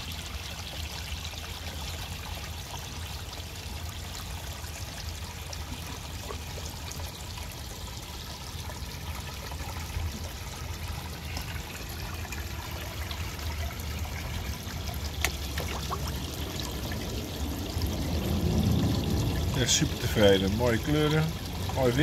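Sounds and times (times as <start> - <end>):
water splashing into pond: 0.0 - 22.0.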